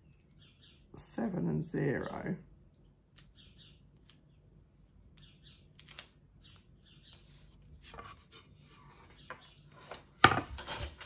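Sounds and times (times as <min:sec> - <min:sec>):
small bird chirping: 0:00.0 - 0:07.9, 0:08.8 - 0:10.2.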